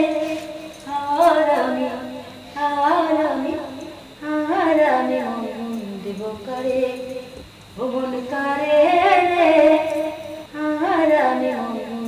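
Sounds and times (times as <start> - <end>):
woman singing slow melody: 0.0 - 12.0.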